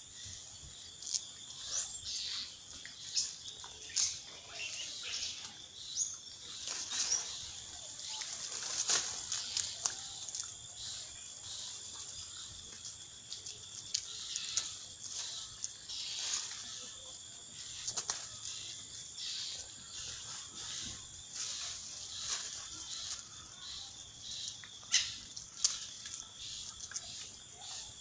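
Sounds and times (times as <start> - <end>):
leaves and twigs rustling: 0.1 - 28.0.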